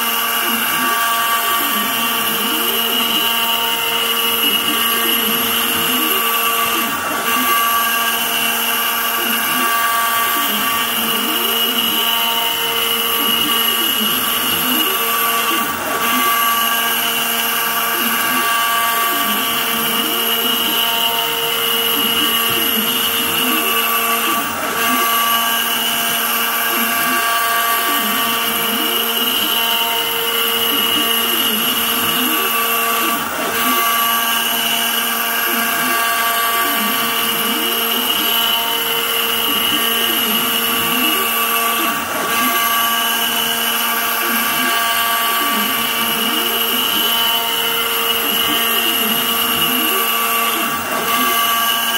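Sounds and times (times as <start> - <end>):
bit cutting wood: 0.0 - 51.9
router spindle whining: 0.0 - 51.9.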